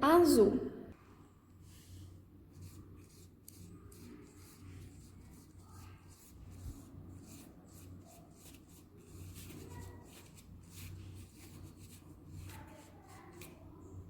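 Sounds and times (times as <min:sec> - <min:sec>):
paintbrush brushing on paper: 0:01.5 - 0:14.0.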